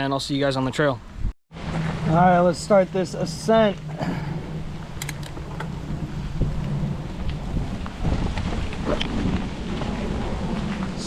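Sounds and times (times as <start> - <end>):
wind rumble on microphone: 1.1 - 11.0
rain falling: 1.5 - 11.0.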